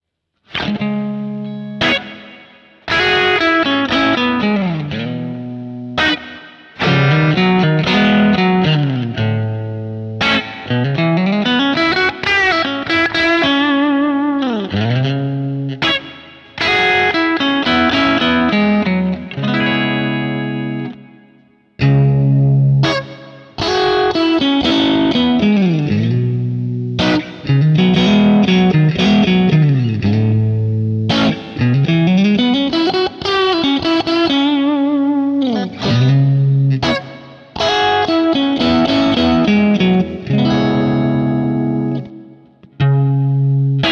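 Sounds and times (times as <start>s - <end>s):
distorted electric guitar playing: 0.4s - 43.9s.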